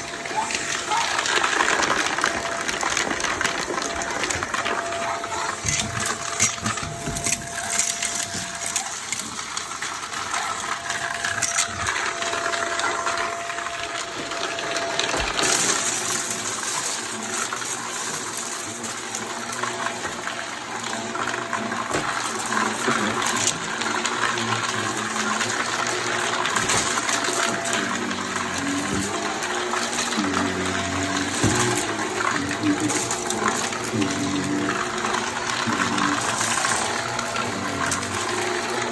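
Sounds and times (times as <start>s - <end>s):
vacuum cleaner running: 0.0s - 38.9s
sharp clicks and rattles: 0.1s - 38.9s.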